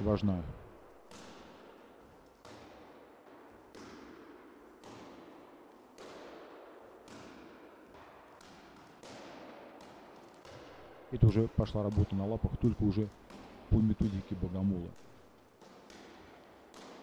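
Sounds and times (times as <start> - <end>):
punches on focus mitts: 0.7 - 17.0.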